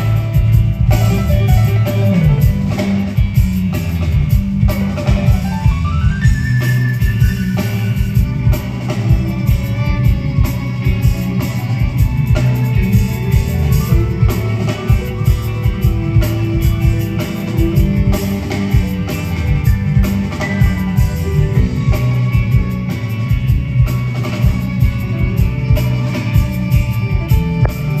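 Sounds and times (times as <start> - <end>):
bass guitar: 0.0 - 28.0
drum kit busy beat: 0.0 - 28.0
electric guitars: 0.0 - 28.0
keyboards: 0.0 - 28.0
violin: 0.0 - 28.0.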